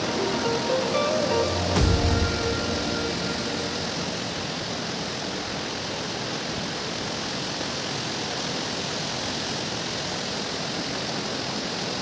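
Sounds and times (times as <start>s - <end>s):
water rushing through sluice gate: 0.0s - 12.0s.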